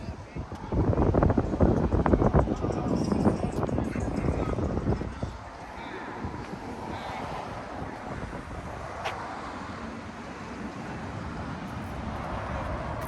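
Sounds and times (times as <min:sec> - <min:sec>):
wind on microphone: 0:00.0 - 0:13.0
cars passing: 0:00.1 - 0:13.0.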